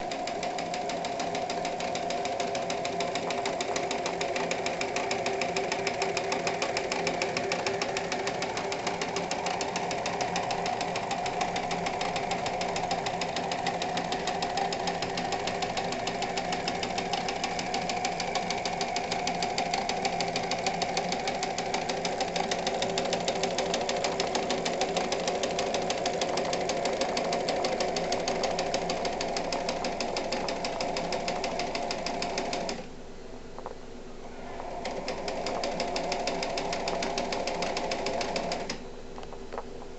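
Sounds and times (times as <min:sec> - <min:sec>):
sewing machine motor hum: 0:00.0 - 0:32.9, 0:34.3 - 0:38.9
sewing machine needle clatter: 0:00.0 - 0:32.9, 0:34.6 - 0:38.8.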